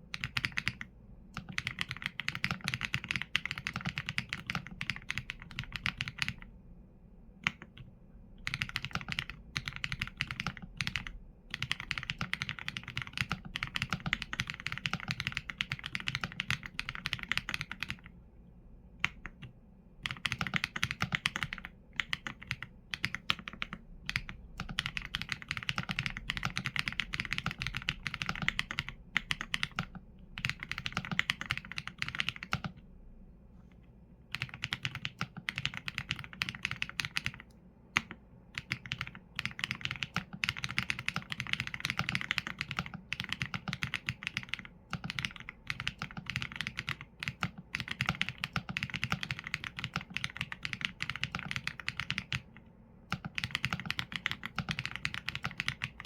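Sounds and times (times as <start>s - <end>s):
mechanical keyboard typing: 0.1s - 6.5s, 7.4s - 18.1s, 19.0s - 32.8s, 34.3s - 56.0s.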